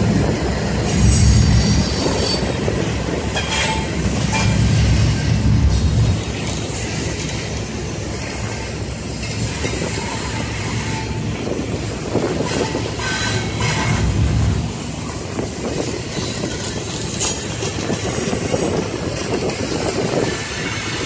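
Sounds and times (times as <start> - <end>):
freight train wheels clacking: 0.0 - 21.0.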